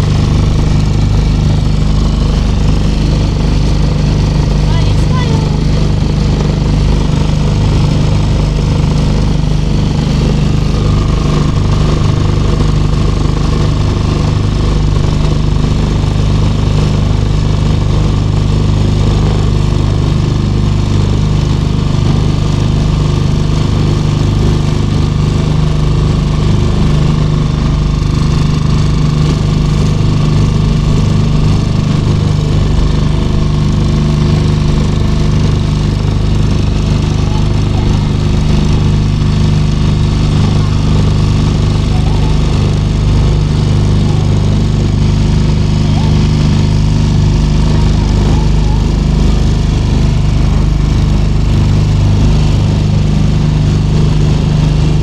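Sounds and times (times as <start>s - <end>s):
motorboat engine droning: 0.0s - 55.0s.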